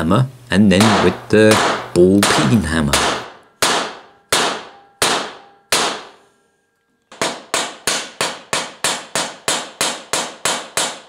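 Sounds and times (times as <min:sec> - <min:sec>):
hammer striking steel rivets: 0:00.8 - 0:06.2, 0:07.1 - 0:11.0.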